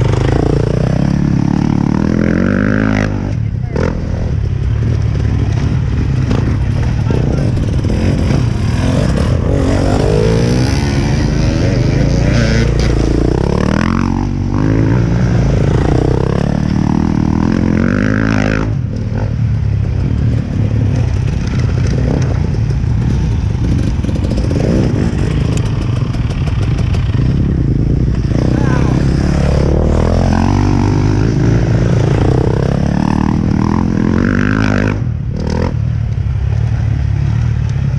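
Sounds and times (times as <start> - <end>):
dirt bike engine revving: 0.0 - 35.8.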